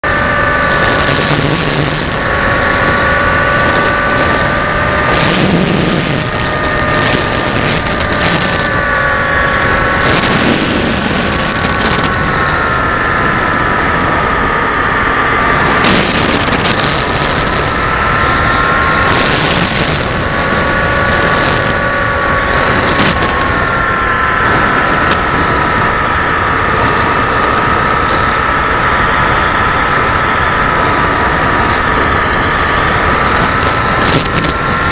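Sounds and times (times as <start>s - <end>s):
model aircraft motor whining: 0.0s - 34.9s
wind rush over microphone: 0.0s - 34.9s.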